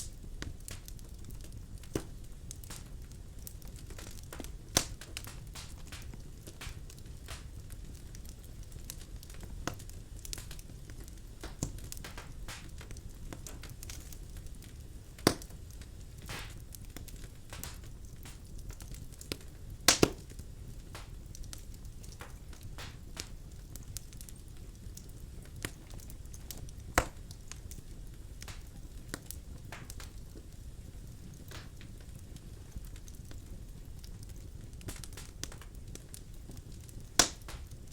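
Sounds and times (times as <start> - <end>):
logs crackling in a fireplace: 0.0 - 37.9
low steady rumble of fire: 0.0 - 37.9
sharp pops of burning wood: 0.0 - 37.9.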